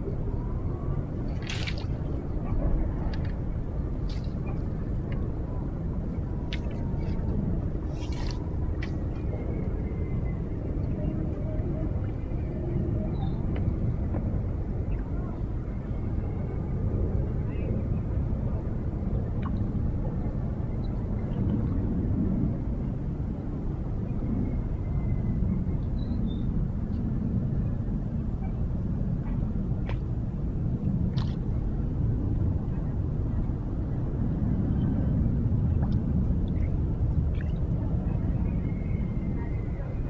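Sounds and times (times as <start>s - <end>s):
wind on microphone: 0.0s - 40.0s.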